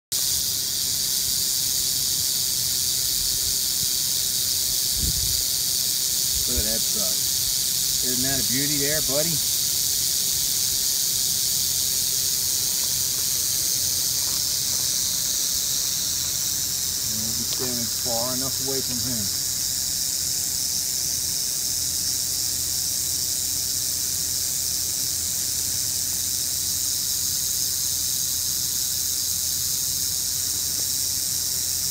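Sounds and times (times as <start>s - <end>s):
rattlesnake rattling: 0.1s - 31.9s.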